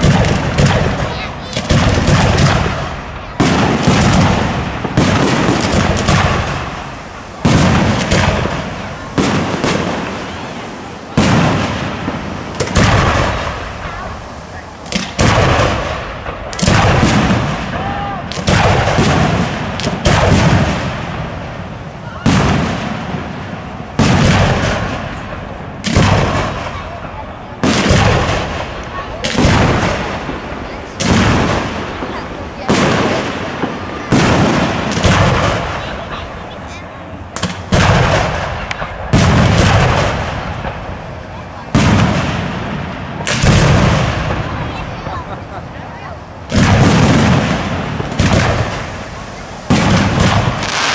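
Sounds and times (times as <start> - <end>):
firework shells booming: 0.0 - 50.9.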